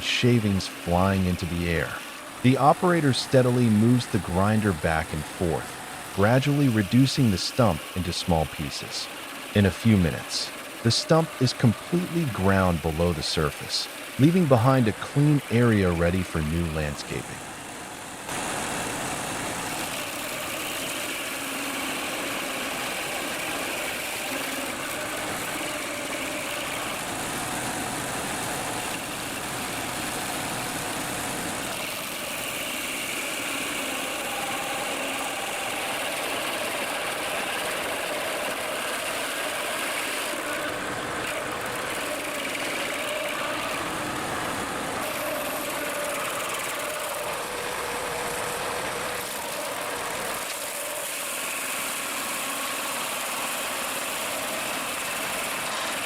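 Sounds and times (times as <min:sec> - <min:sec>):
stump grinder engine drone: 0:00.0 - 0:13.2, 0:13.8 - 0:17.7, 0:18.4 - 0:56.0.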